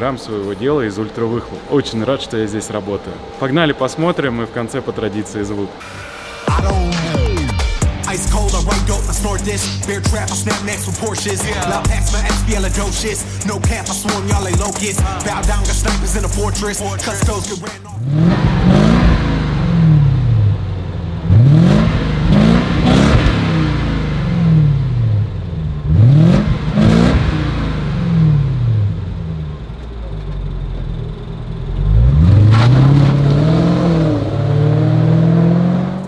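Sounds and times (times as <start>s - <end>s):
car engine revving: 0.4s - 36.0s.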